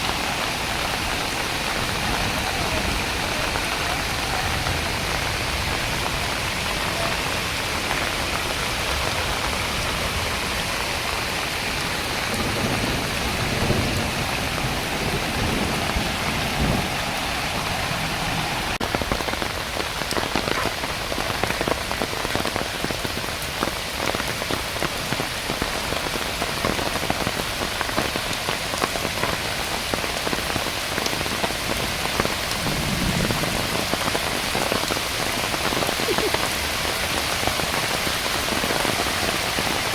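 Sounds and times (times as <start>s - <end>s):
heavy rain falling: 0.0s - 39.9s
raindrops ticking close by: 0.0s - 39.9s.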